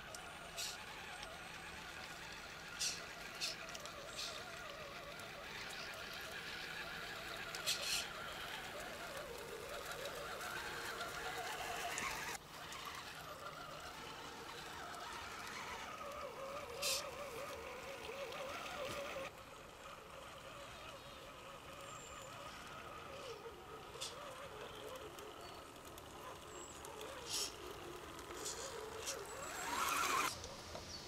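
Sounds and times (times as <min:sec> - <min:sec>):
electric motor and gear whine: 0:00.0 - 0:31.0.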